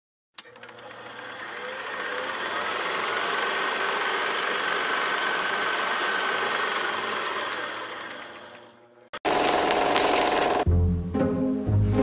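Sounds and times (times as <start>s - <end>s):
faint projector whine: 0.4s - 10.6s
film projector clattering: 0.4s - 10.6s.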